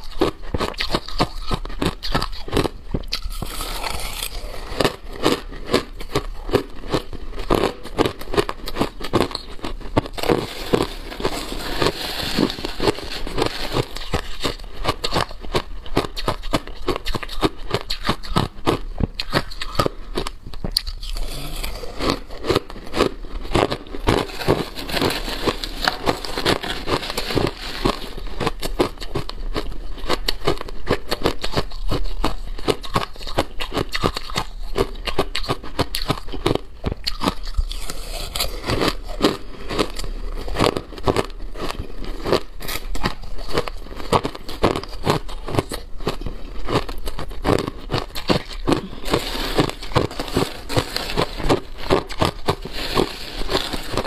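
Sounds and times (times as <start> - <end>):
ice being chewed crunching: 0.0 - 54.0.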